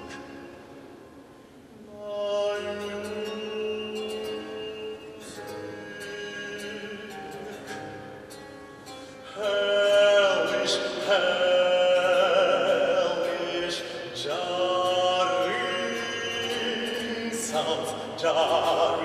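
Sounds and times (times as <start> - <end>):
baritone singing with vibrato: 0.0 - 1.0, 1.7 - 8.2, 9.2 - 19.0.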